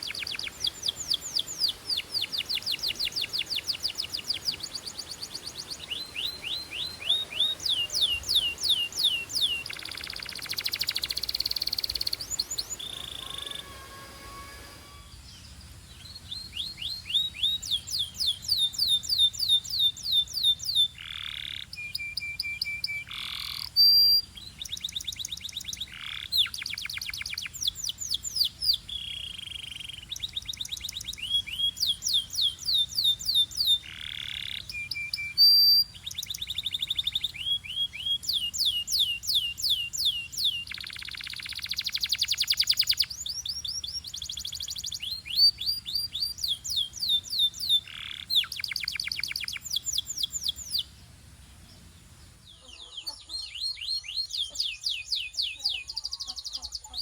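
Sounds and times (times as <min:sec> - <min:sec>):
canaries singing trills: 0:00.0 - 0:57.0.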